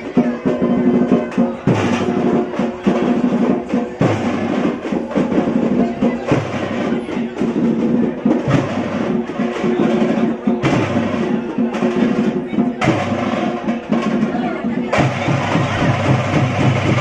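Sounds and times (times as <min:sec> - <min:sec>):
frame drum rapid strokes: 0:00.1 - 0:17.0.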